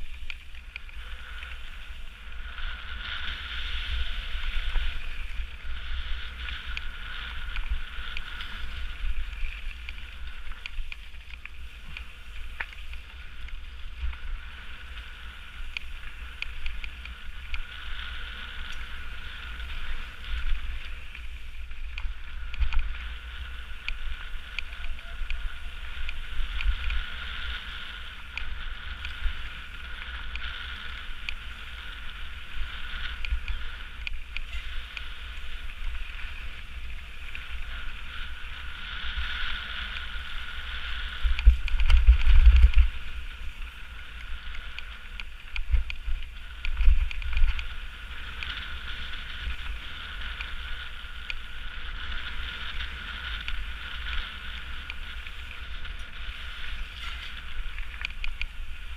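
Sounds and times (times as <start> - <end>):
bike clicks and rattles: 0.0 - 58.9
tyres rolling over gravel: 0.0 - 58.9
wind rumble on microphone: 0.0 - 58.9.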